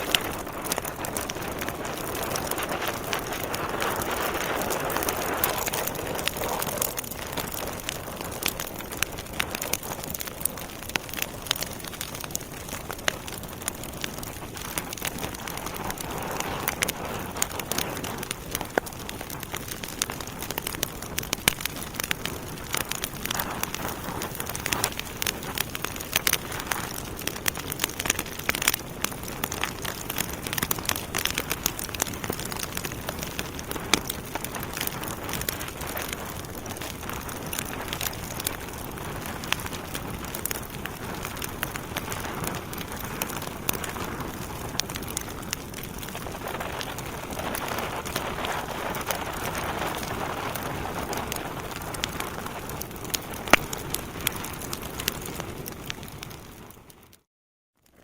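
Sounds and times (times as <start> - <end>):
steady fire hiss: 0.0 - 54.4
logs crackling and popping: 0.0 - 57.3.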